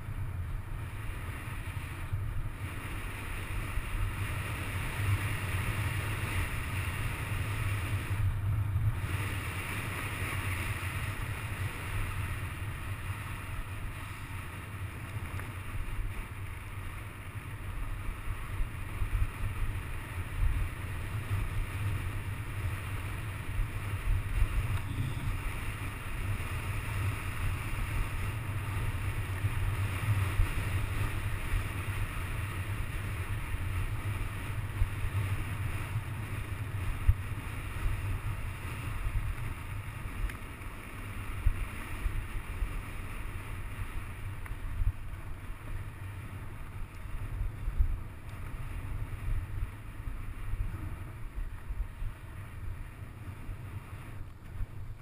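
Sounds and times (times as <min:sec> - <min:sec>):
wind buffeting a camera: 0:00.0 - 0:55.0.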